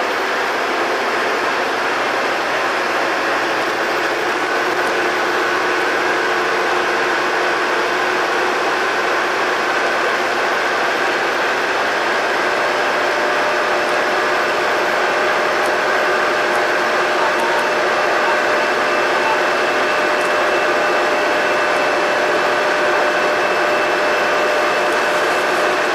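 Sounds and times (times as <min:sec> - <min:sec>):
bus engine running: 0:00.0 - 0:25.9.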